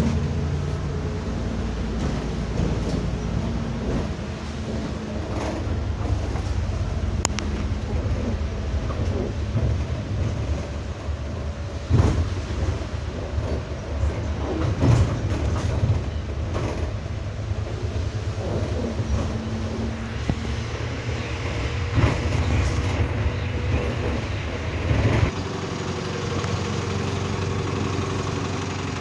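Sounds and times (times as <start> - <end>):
bus body rattling: 0.0 - 29.0
bus engine rumble: 0.0 - 29.0
bus jolts: 0.0 - 29.0.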